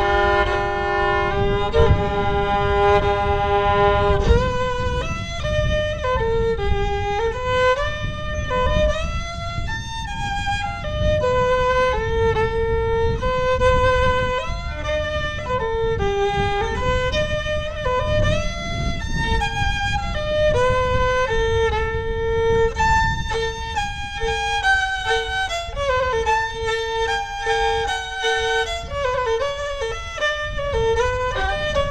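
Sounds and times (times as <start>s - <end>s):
solo fiddle playing slow air: 0.0s - 31.9s.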